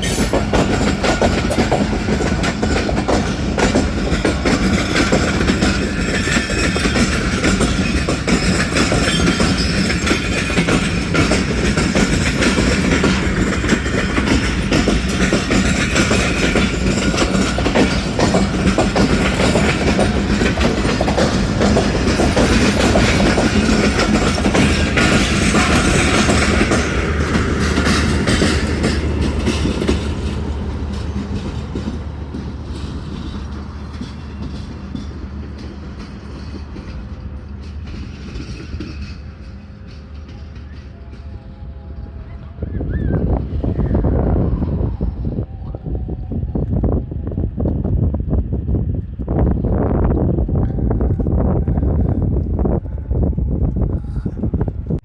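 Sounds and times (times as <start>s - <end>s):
train wheels clattering over rails: 0.0s - 44.9s.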